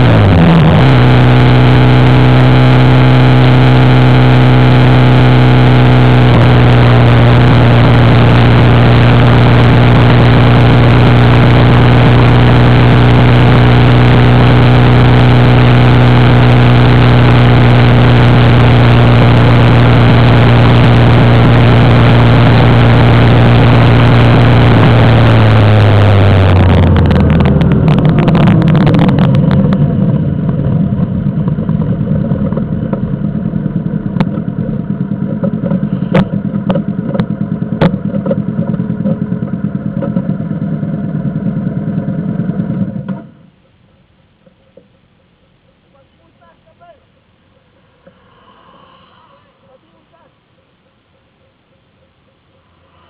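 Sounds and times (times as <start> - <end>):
motorcycle engine running: 0.0 - 45.8
motorcycles idling: 0.0 - 53.0.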